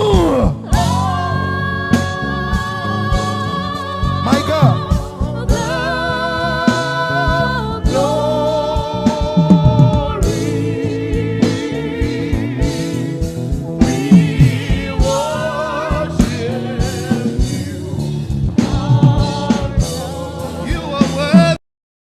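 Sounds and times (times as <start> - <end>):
gospel singing over a band: 0.0 - 21.6.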